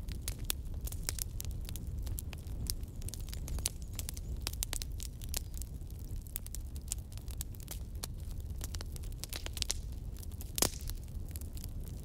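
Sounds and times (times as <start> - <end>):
bonfire crackling: 0.0 - 12.0.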